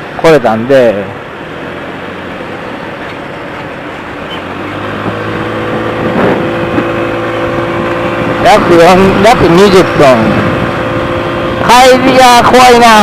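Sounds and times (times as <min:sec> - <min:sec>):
road traffic noise: 0:00.0 - 0:13.0
vehicle engine: 0:00.0 - 0:13.0.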